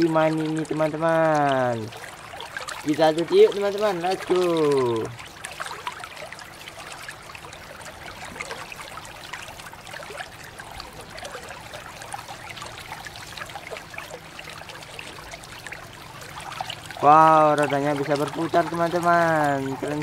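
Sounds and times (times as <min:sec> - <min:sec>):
running water splashing on plastic: 0:00.0 - 0:20.0
water spattering into basin: 0:00.0 - 0:20.0.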